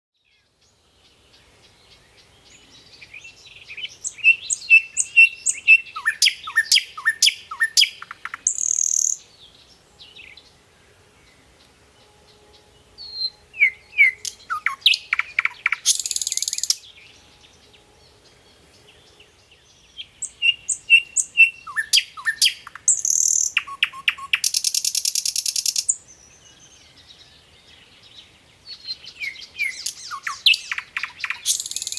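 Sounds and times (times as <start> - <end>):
songbird singing: 0.2 - 31.9.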